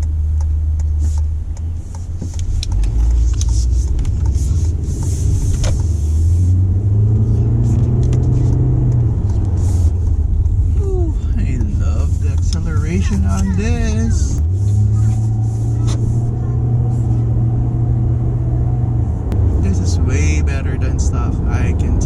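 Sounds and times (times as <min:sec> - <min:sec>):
car engine accelerating: 0:00.0 - 0:22.0
road rumble: 0:00.0 - 0:22.0.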